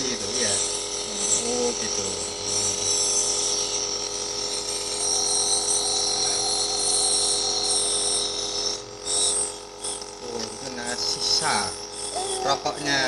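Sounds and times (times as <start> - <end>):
nebulizer motor buzz: 0.0 - 13.0.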